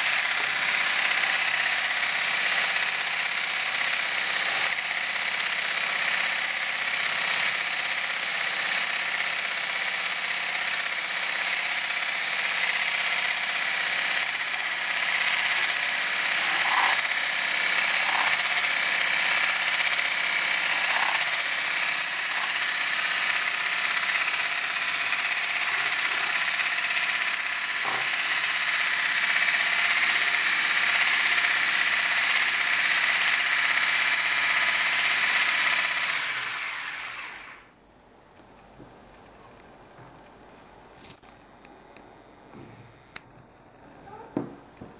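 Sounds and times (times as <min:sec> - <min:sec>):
hand blender motor whine: 0:00.0 - 0:37.7.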